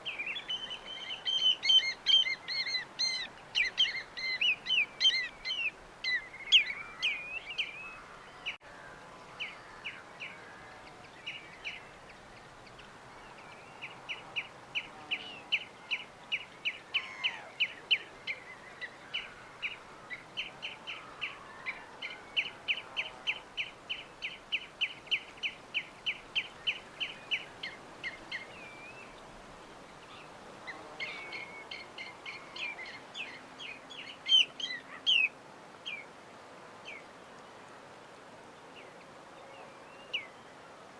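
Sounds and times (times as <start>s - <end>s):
faint background hiss: 0.0s - 40.9s
small songbirds chirping: 0.0s - 40.9s.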